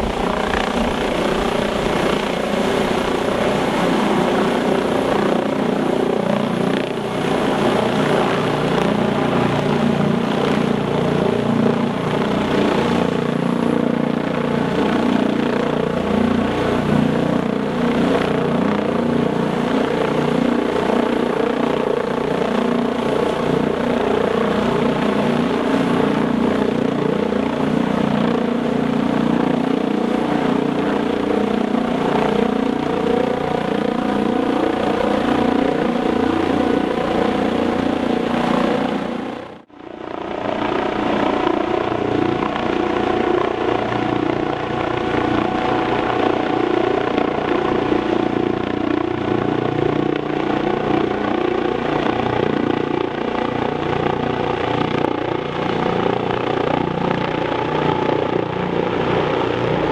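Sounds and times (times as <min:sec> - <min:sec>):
helicopter rotor and turbines: 0:00.0 - 0:59.9.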